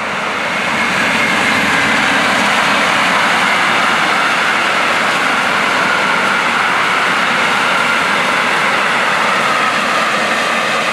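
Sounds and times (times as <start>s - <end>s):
train wheels on rails: 0.0s - 10.9s.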